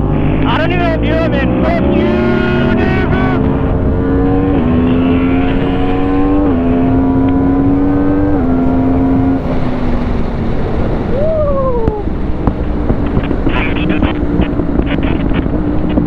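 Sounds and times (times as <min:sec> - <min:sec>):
motorcycle engine accelerating: 0:00.0 - 0:16.0
road and wind noise: 0:00.0 - 0:16.0.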